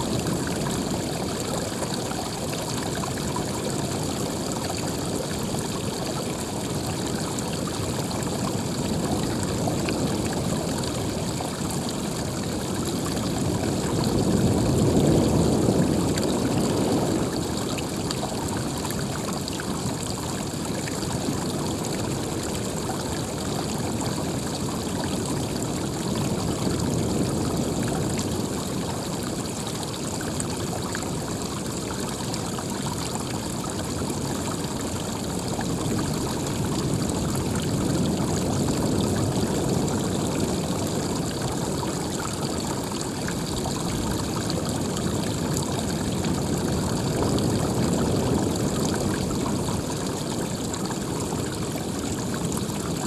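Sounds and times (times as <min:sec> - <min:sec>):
running water flowing: 0:00.0 - 0:53.0.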